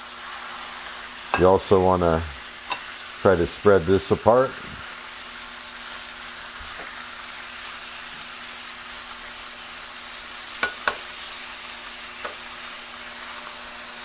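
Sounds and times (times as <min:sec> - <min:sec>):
meat sizzling on a griddle: 0:00.0 - 0:14.0.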